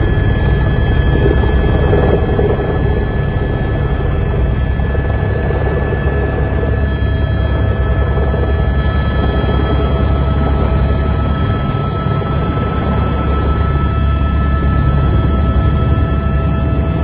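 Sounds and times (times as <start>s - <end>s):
helicopter rotor rumble: 0.0s - 17.0s
turbine high whine: 0.0s - 17.0s.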